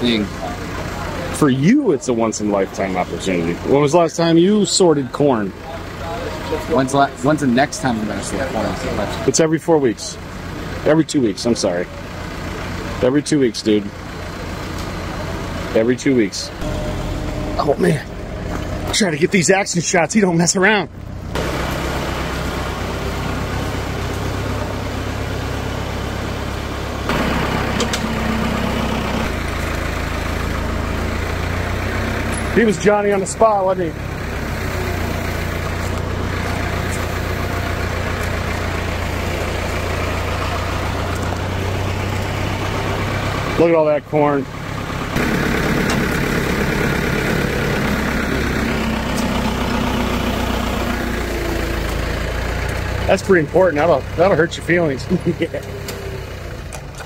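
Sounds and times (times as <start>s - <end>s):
farm vehicle engine running: 0.0s - 57.0s.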